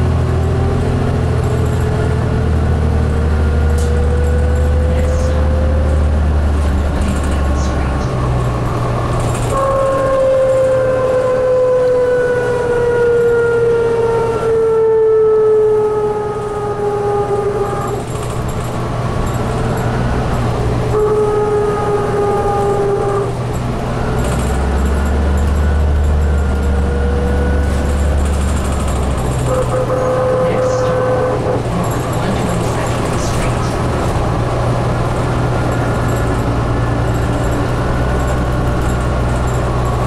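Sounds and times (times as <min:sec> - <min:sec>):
low diesel drone: 0:00.0 - 0:40.0.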